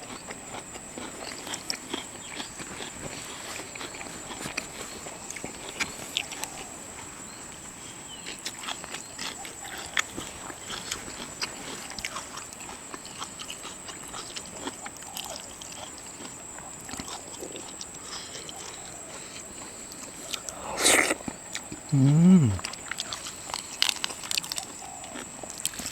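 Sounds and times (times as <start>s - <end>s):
dogs chewing: 0.0s - 21.9s.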